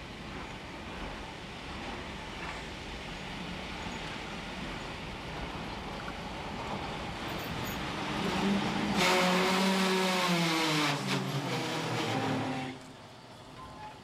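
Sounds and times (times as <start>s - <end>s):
train wheels and running gear: 0.0s - 14.0s.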